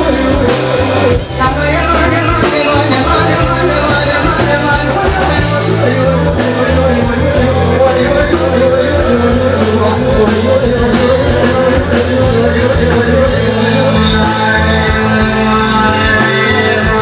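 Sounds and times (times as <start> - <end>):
bass line: 0.0 - 17.0
live band music: 0.0 - 17.0
person singing: 0.0 - 17.0.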